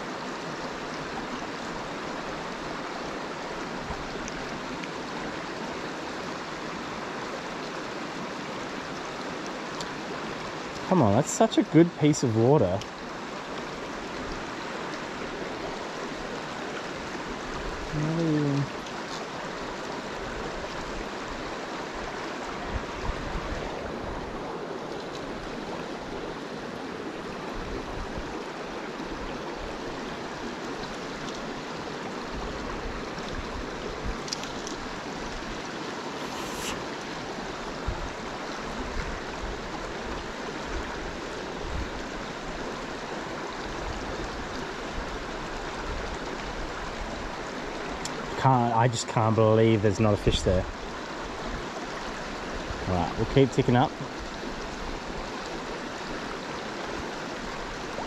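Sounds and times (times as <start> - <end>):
river current rushing: 0.0 - 58.0.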